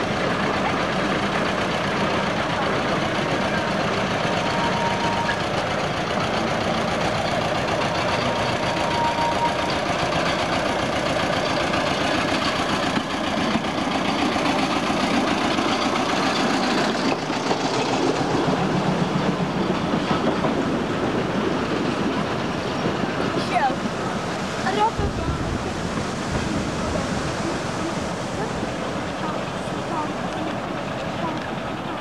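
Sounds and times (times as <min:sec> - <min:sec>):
locomotive engine running: 0:00.0 - 0:32.0
train wagons rolling on track: 0:00.0 - 0:32.0.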